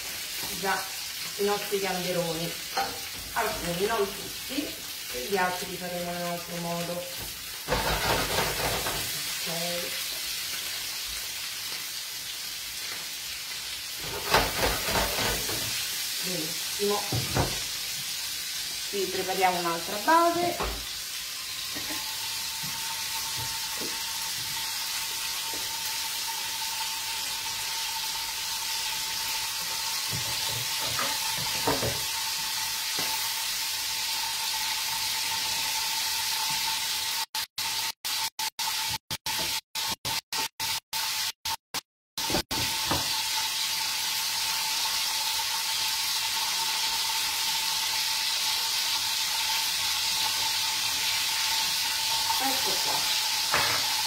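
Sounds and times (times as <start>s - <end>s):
prawns frying in oil: 0.0s - 41.6s, 42.2s - 54.0s.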